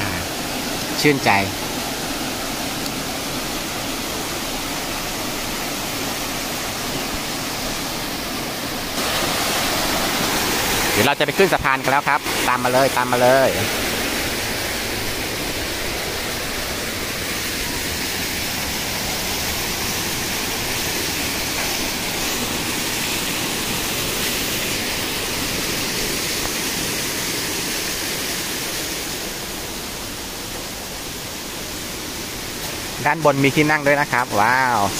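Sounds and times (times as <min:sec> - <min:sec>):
waterfall and stream rushing: 0:00.0 - 0:34.9.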